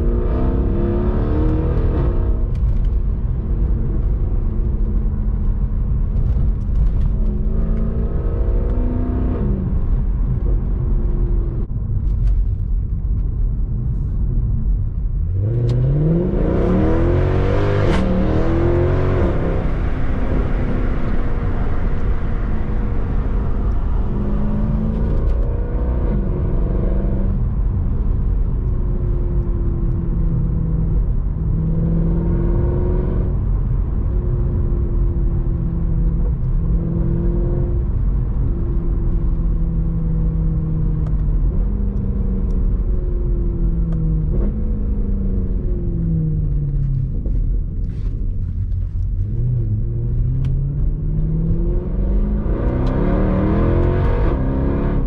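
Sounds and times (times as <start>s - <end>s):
car engine revving: 0.0s - 11.7s, 15.3s - 55.0s
road rumble: 0.0s - 55.0s.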